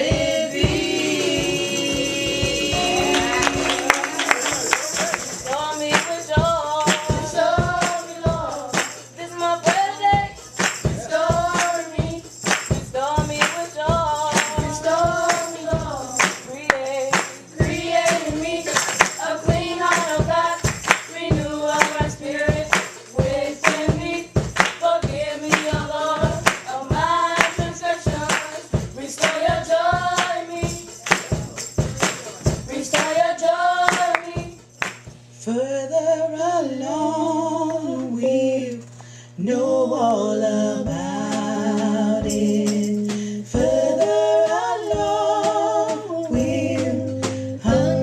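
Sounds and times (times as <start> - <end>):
jingling tambourine: 0.0 - 35.3, 41.8 - 48.0
steady percussion beat: 0.0 - 35.4, 40.9 - 48.0
voices singing a gospel hymn: 0.0 - 38.8, 39.4 - 48.0.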